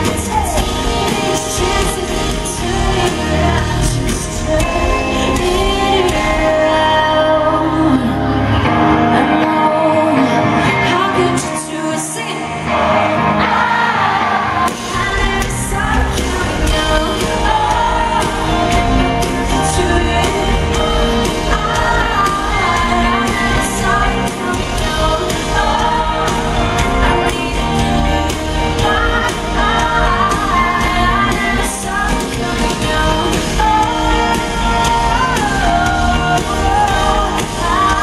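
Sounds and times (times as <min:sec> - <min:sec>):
pop-rock band playing: 0:00.0 - 0:38.0
woman singing: 0:00.0 - 0:38.0.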